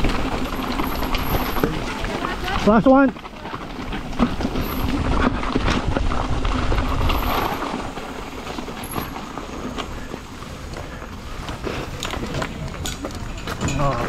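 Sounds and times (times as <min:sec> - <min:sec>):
bike clicks and rattles: 0:00.0 - 0:14.0
bike tyres rumbling over dirt: 0:00.0 - 0:14.0.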